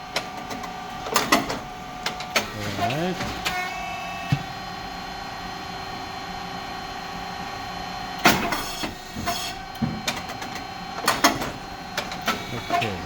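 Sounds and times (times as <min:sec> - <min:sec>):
machine hum and whine: 0:00.0 - 0:13.0.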